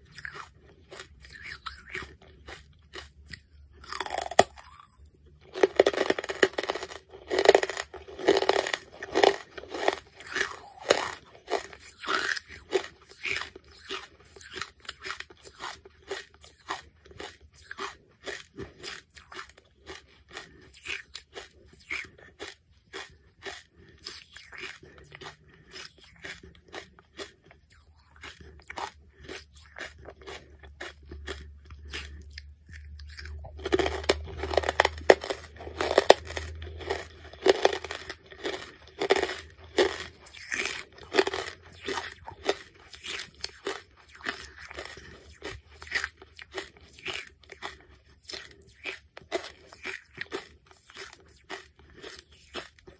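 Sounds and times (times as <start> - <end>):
person crunching charcoal: 0.0 - 52.9.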